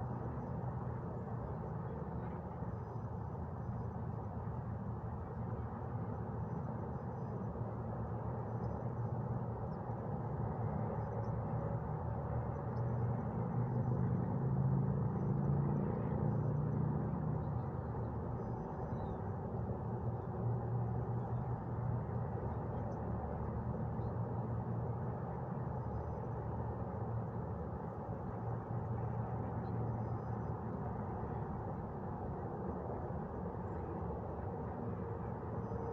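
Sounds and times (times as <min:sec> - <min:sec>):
wind: 0:00.0 - 0:35.9.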